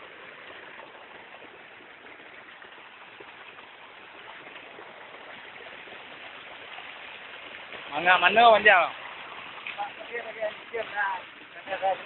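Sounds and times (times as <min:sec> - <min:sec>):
waterfall rushing over boulders: 0:00.0 - 0:12.0.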